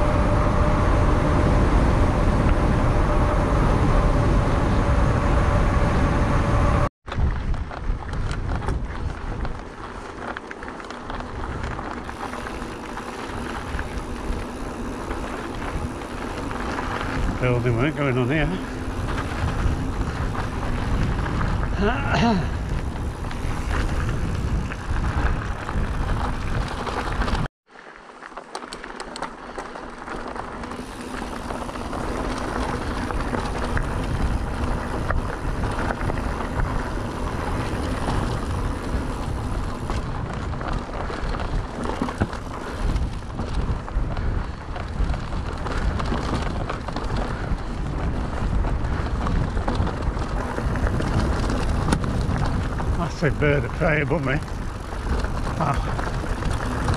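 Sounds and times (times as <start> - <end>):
wind buffeting microphone: 0.0 - 10.3, 11.0 - 27.5, 30.8 - 56.9
tyres crunching on trail: 7.1 - 56.9.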